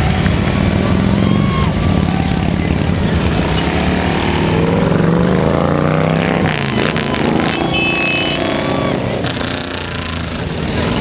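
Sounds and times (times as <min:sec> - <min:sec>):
motorcycle accelerating: 0:00.0 - 0:11.0
motorcycle engines in a group: 0:00.0 - 0:11.0.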